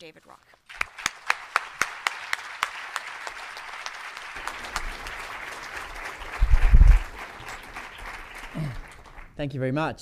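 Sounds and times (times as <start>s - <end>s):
crowd applauding: 0.7s - 9.4s
sharp close claps: 0.7s - 9.4s.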